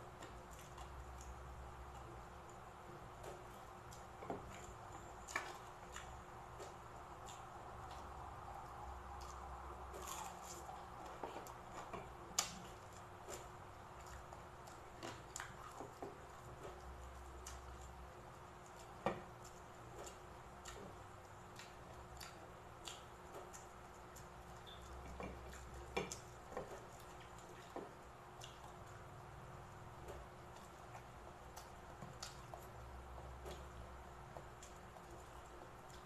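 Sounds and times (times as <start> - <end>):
faint steady hum: 0.0 - 36.0
chewing sounds: 0.1 - 29.2, 30.1 - 36.0.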